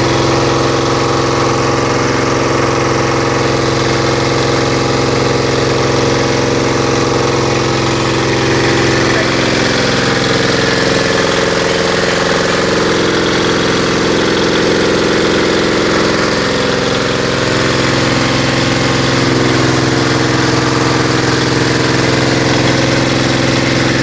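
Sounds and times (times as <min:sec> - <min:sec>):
pellet mill running: 0:00.0 - 0:24.0.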